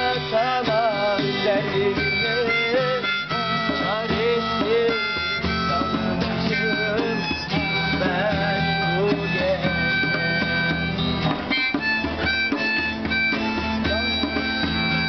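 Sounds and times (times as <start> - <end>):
guitar accompaniment: 0.0 - 15.0
harmonica wailing melody: 0.0 - 15.0.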